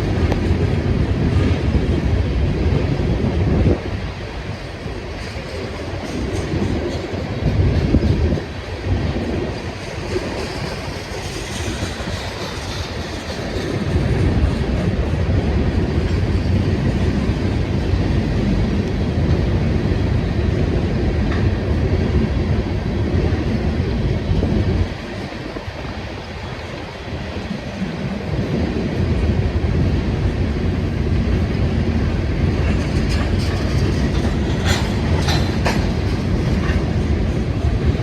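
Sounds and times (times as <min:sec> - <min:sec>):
freight train cars rolling: 0:00.0 - 0:38.0.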